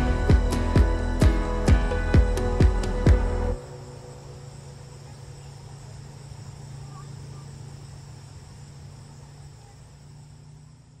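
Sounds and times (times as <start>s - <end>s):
low steady hum: 0.0s - 11.0s
insects trilling: 0.1s - 11.0s.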